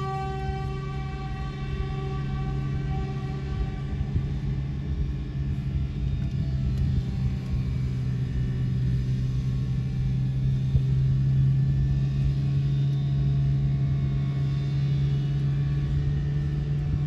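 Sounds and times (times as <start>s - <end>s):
train engine drone: 0.0s - 17.0s
train rumble: 0.0s - 17.0s.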